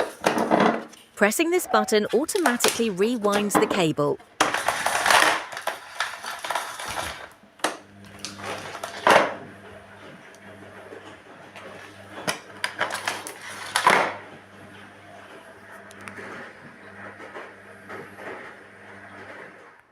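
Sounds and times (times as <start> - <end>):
vacuum cord rewinding whir: 1.2 - 19.8.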